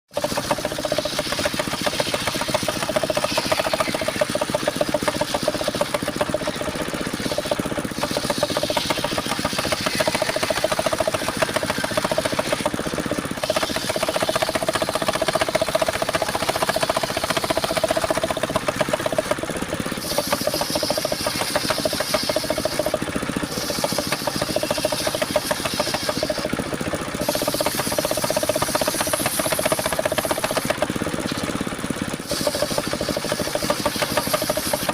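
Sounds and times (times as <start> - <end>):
saw blade cutting wood hiss: 0.1 - 19.3, 19.9 - 31.4, 32.2 - 34.9
sawmill engine chugging: 0.1 - 34.9.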